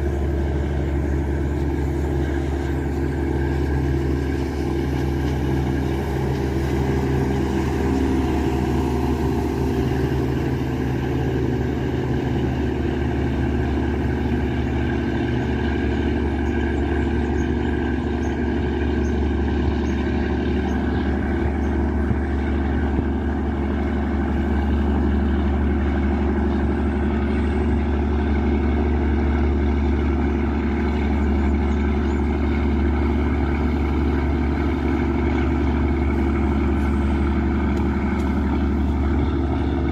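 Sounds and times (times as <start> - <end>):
boat diesel engine running: 0.0 - 39.9.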